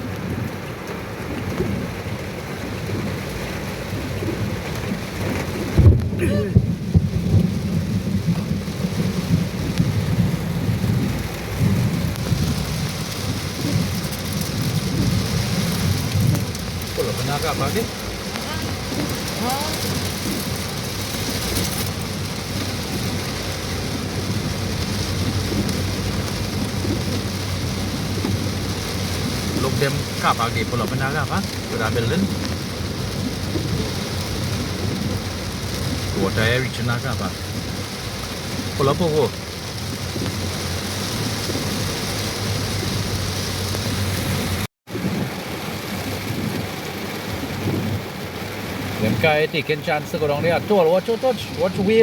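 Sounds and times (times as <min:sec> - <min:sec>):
heavy rain hissing: 0:02.3 - 0:52.0.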